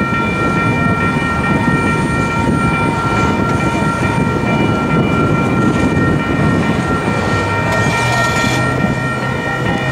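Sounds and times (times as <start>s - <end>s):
freight train rumbling over rails: 0.0s - 9.9s
high ringing tones: 0.0s - 9.9s.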